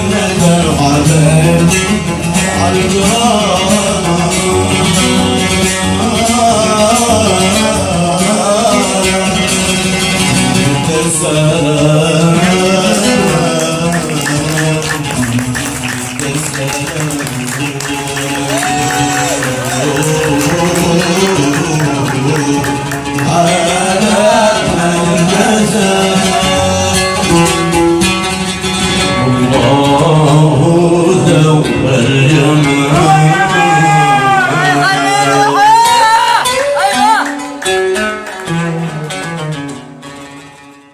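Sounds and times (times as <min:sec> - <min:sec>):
plucked string instrument song: 0:00.0 - 0:40.9.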